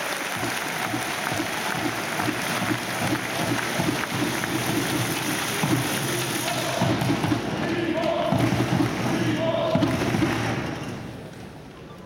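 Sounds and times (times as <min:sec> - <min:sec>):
crowd of people talking: 0:00.0 - 0:12.0.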